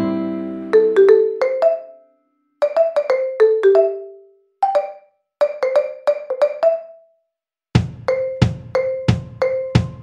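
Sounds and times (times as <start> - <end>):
light mallet melody: 0.6 - 7.1, 8.1 - 10.0.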